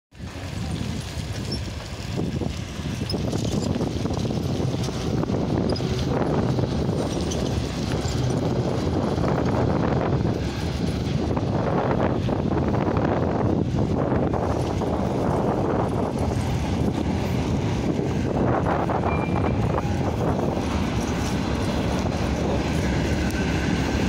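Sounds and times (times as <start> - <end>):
freight train rumbling past: 0.2 - 24.0.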